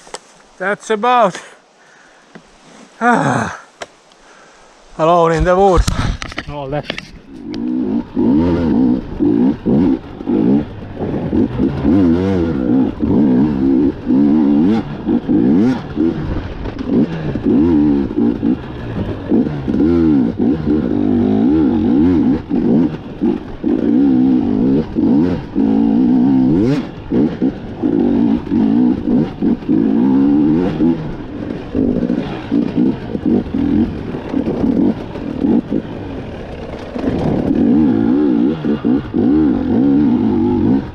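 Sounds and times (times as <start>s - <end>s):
dirt bike engine revving: 7.2s - 40.9s.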